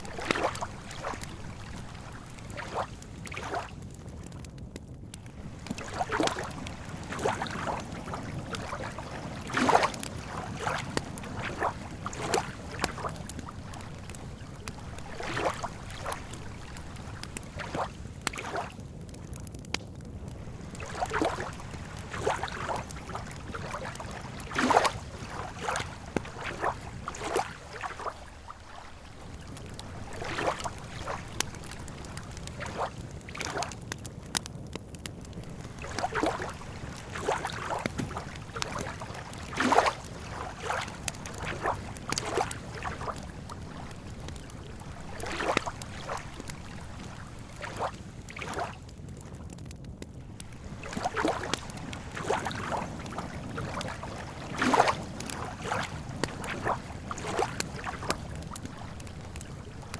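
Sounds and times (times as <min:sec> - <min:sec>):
lake water lapping: 0:00.0 - 0:04.2, 0:05.2 - 0:18.9, 0:20.2 - 0:34.4, 0:35.2 - 0:48.9, 0:50.2 - 0:59.9.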